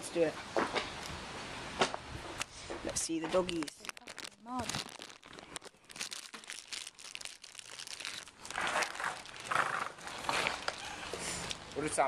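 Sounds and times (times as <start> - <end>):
crinkling and rustling: 2.3 - 12.0.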